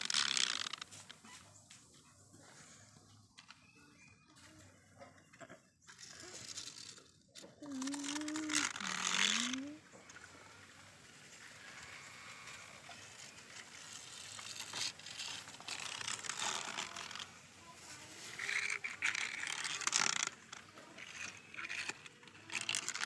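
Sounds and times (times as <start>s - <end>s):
toy car wheels rattling on plastic: 0.0s - 1.5s, 2.3s - 23.0s.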